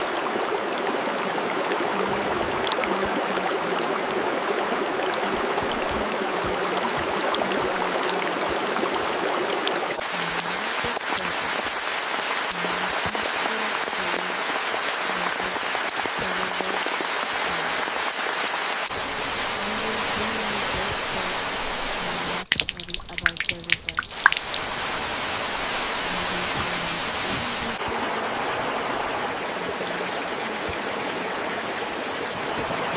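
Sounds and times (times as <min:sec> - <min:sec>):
rushing water: 0:00.0 - 0:32.9.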